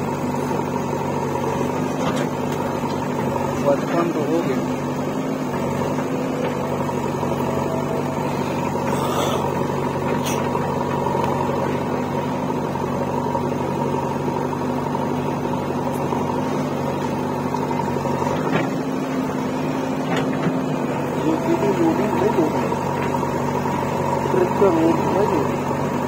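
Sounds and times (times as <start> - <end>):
diesel engines idling: 0.0 - 26.0.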